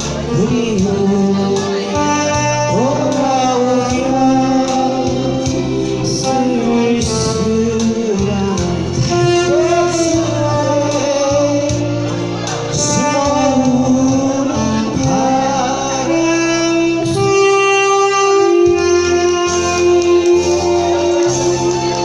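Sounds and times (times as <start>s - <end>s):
backing track with light percussion: 0.0s - 22.0s
saxophone slow melody: 0.0s - 22.0s.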